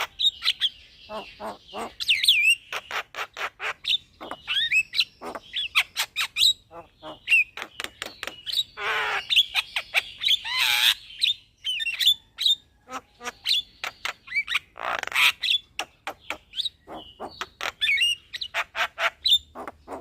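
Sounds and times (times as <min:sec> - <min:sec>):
harsh rasping bird calls: 0:00.0 - 0:20.0.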